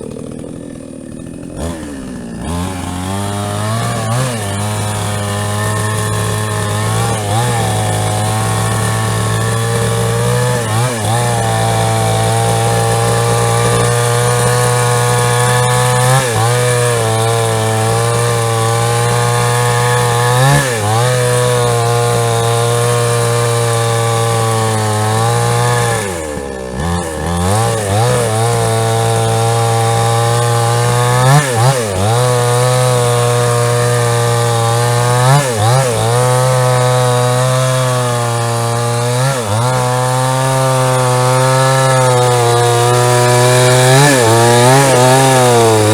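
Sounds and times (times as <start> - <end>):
chainsaw cutting log: 0.0 - 45.9.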